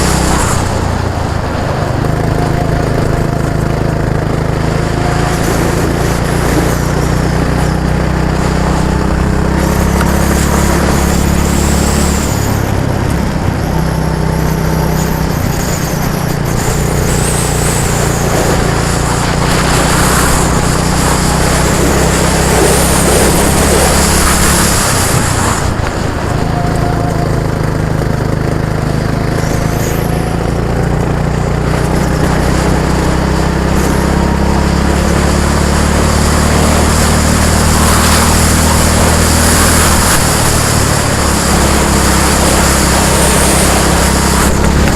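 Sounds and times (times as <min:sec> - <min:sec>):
engine running close up: 0:00.0 - 0:44.9.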